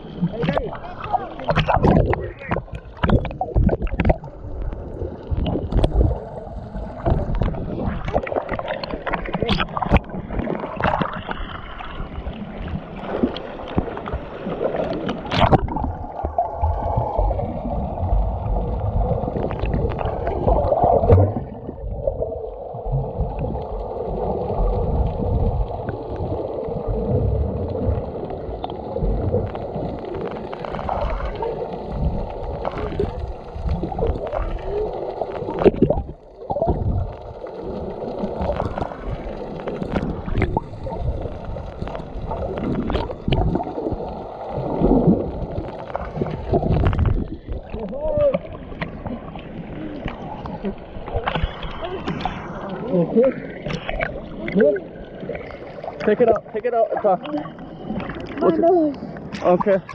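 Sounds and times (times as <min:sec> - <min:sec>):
water gurgling: 0:00.0 - 0:59.9.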